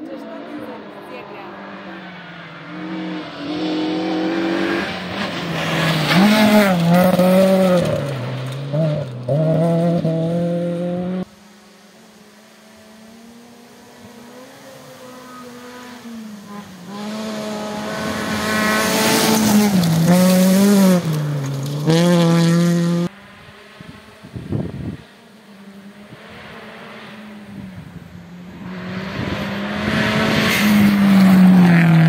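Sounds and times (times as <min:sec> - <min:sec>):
rally car engines at high revs: 0:00.0 - 0:11.4, 0:12.1 - 0:32.0
car approaching at full throttle: 0:00.0 - 0:32.0.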